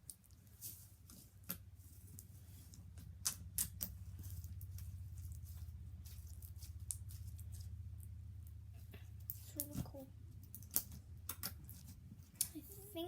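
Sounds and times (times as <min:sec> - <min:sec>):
slime crackling and squishing: 0:00.0 - 0:13.0
steady low hum: 0:00.0 - 0:13.0.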